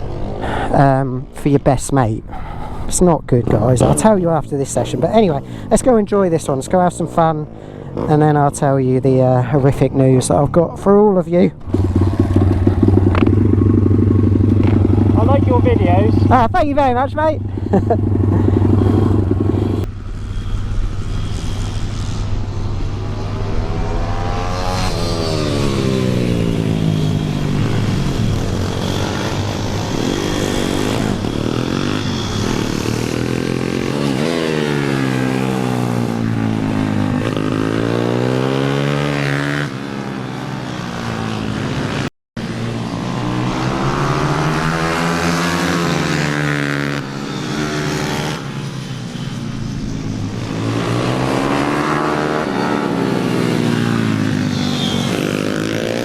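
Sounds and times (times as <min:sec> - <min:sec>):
pit bike engine accelerating: 0:00.0 - 0:00.8, 0:11.6 - 0:56.0.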